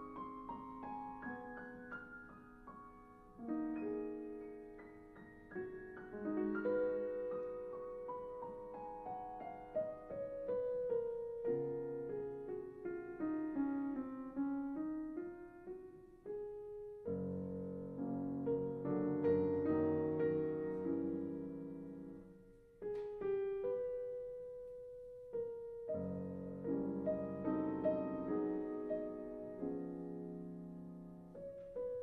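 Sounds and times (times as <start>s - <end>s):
solo piano music: 0.0s - 32.0s.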